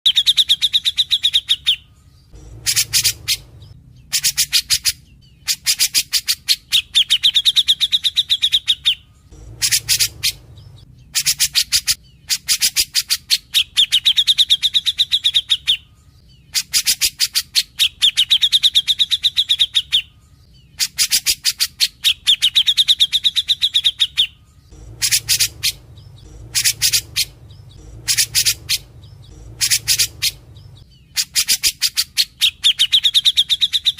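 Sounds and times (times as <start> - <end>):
bulbul singing trills: 0.1 - 33.9.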